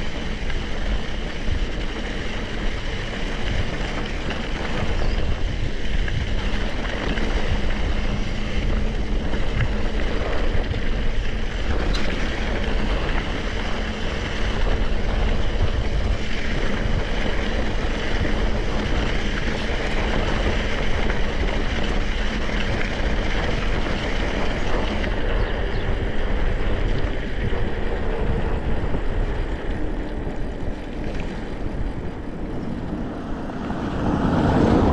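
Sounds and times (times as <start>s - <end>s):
mountain bike rattling: 0.0s - 34.9s
wind on microphone: 0.0s - 34.9s.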